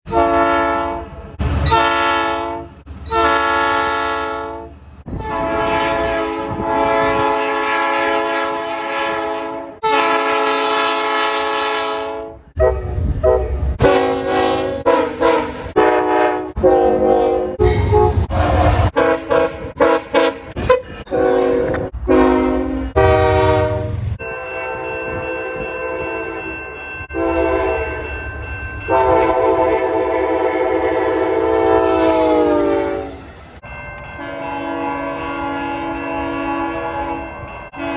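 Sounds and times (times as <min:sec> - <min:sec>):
locomotive air horn blasts: 0:00.1 - 0:26.4, 0:27.2 - 0:28.0, 0:28.9 - 0:33.3, 0:34.2 - 0:37.9.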